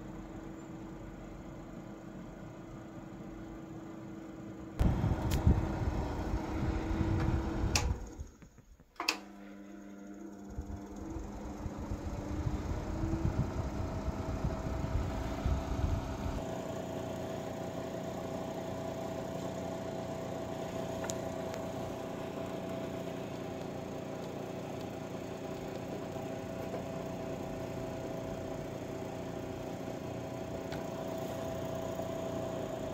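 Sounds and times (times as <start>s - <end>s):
fan heater humming with whine: 0.0s - 32.9s.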